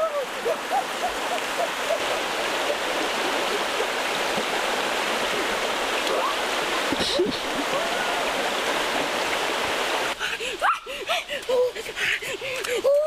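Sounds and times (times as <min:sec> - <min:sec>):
river water rushing: 0:00.0 - 0:13.0
water gurgling: 0:00.0 - 0:13.0.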